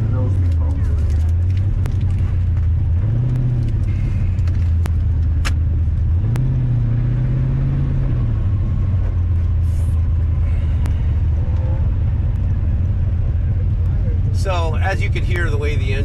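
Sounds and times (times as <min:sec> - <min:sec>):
misfiring car engine revving: 0:00.0 - 0:16.0.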